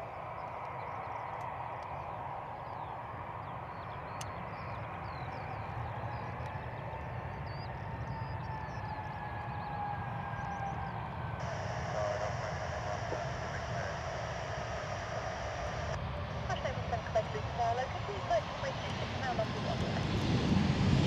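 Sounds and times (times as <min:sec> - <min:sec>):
birds chirping: 0:00.0 - 0:21.0
jet engines rumbling with whine: 0:00.0 - 0:21.0.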